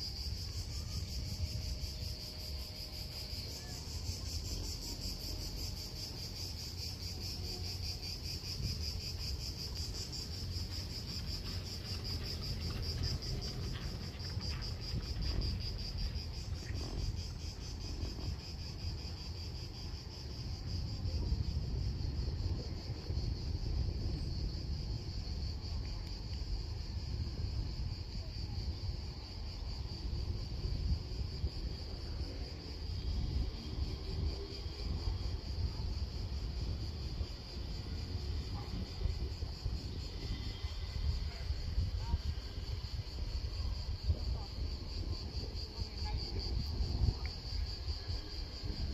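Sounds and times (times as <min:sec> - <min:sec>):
wind rumble on microphone: 0:00.0 - 0:48.9.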